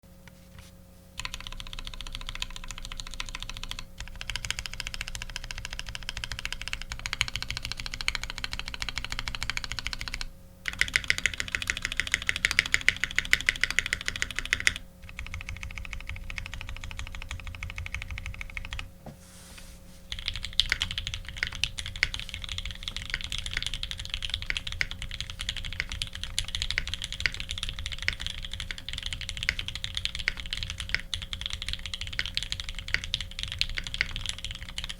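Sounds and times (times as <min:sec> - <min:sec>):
mechanical keyboard typing: 0:01.2 - 0:18.9, 0:20.1 - 0:34.9.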